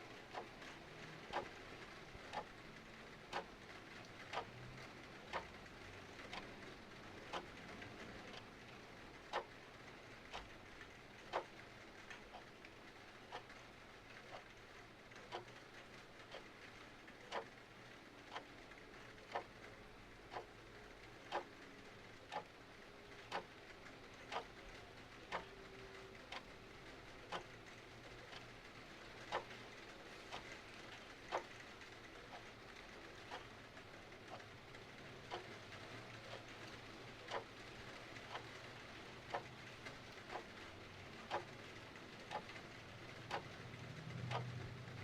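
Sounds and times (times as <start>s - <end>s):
clock ticking: 0.0s - 45.0s
faint rain hiss: 0.0s - 45.0s.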